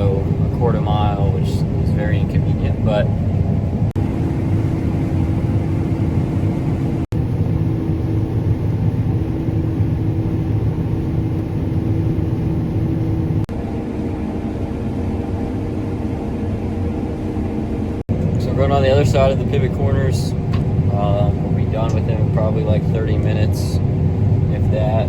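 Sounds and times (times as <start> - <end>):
combine harvester engine droning: 0.0 - 25.0.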